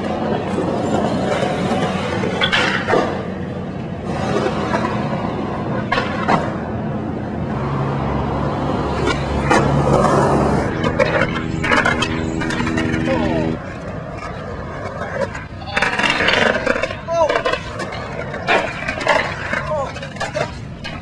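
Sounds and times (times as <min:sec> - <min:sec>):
skateboard clacks: 0:00.0 - 0:07.6, 0:08.3 - 0:21.0
skateboard wheels rolling on concrete: 0:00.0 - 0:21.0.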